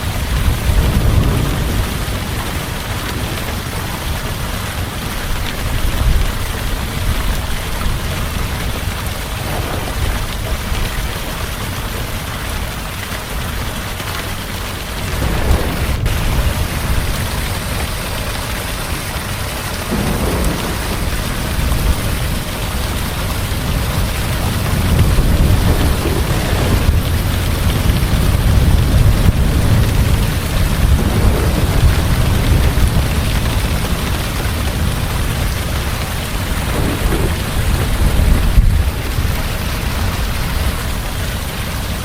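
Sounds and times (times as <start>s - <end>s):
heavy rain: 0.0s - 42.0s
rolling thunder: 0.0s - 42.0s.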